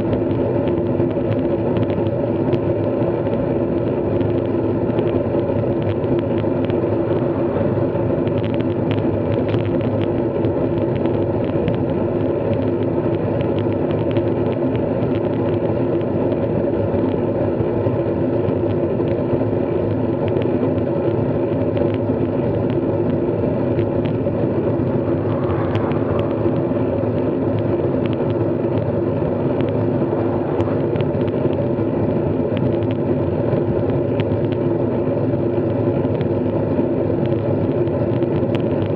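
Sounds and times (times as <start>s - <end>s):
constant low hum: 0.0s - 38.9s
wind and road noise: 0.0s - 38.9s.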